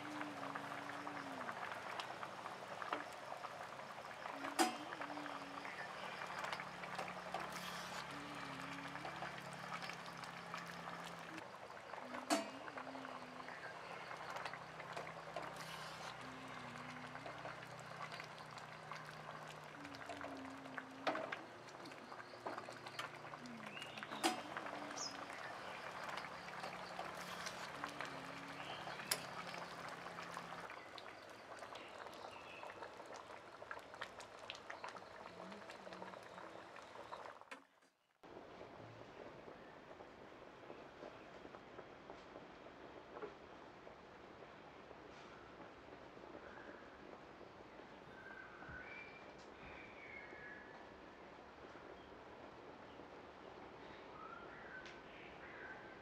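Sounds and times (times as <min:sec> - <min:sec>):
broth boiling in a pan: 0:00.0 - 0:56.0.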